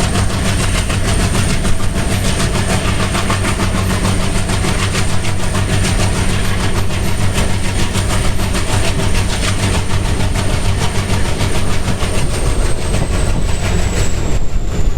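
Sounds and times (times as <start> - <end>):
diesel locomotive engine chugging: 0.0 - 14.9
high thin whine: 0.0 - 14.9.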